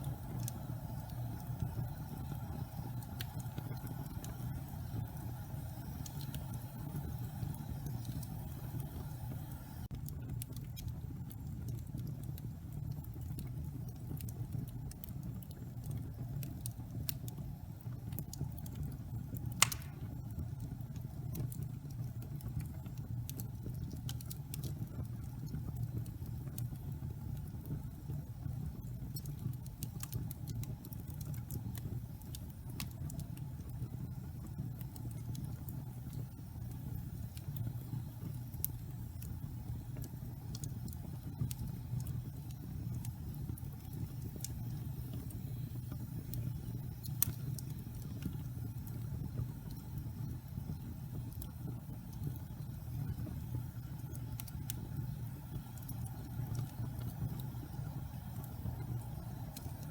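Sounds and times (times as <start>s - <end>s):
fire crackles and pops: 0.0s - 59.9s
fireplace flames rumbling: 0.0s - 59.9s.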